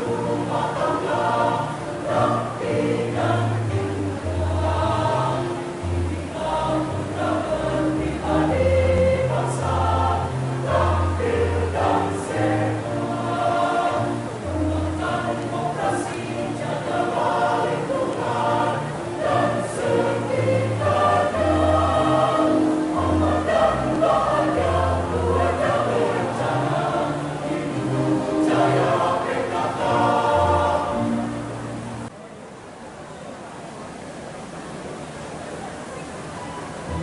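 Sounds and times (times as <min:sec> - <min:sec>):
choir singing in parts: 0:00.0 - 0:32.1.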